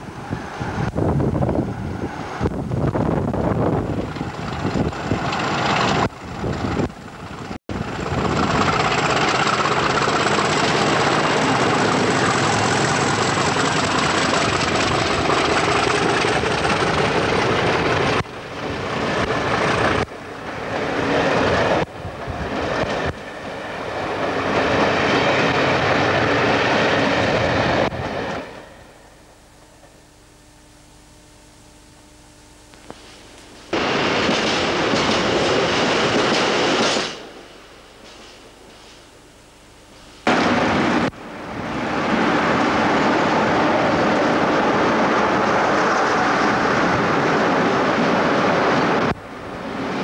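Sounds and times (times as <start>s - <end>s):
train wheels rumbling on rails: 0.0s - 30.0s, 33.0s - 39.1s, 40.0s - 50.0s
diesel locomotive engine: 0.0s - 31.1s, 32.2s - 50.0s.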